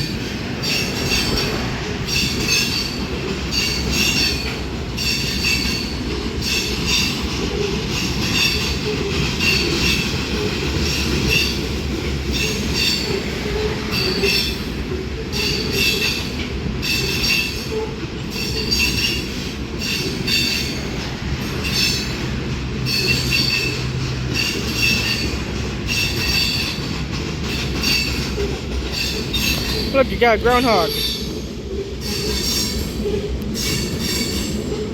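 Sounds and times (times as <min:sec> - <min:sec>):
freight train rumbling: 0:00.0 - 0:34.9.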